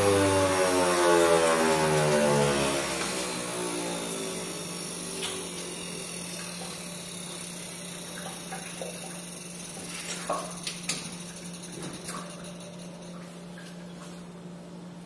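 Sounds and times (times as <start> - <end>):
juicer motor whine spinning down: 0.0 - 12.6.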